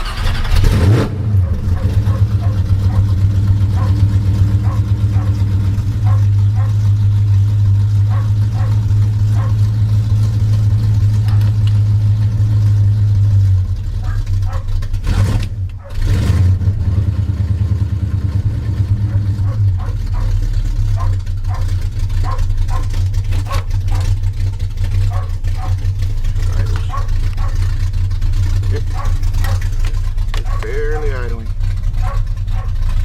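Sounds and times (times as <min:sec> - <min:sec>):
pickup engine idling unevenly: 0:00.0 - 0:16.0, 0:16.7 - 0:33.0.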